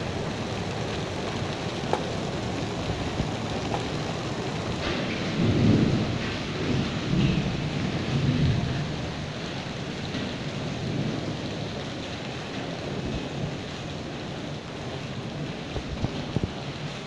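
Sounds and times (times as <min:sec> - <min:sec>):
rain and hail falling: 0:00.0 - 0:17.0.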